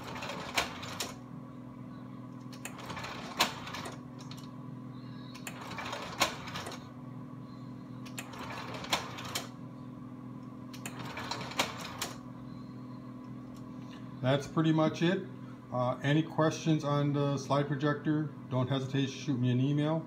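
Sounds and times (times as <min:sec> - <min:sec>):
projector cooling fan humming: 0:00.0 - 0:20.0.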